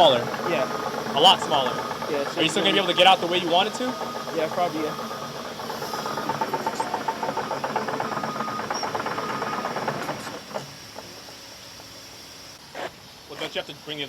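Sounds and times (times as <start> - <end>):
diesel engine clattering: 0.0 - 12.6.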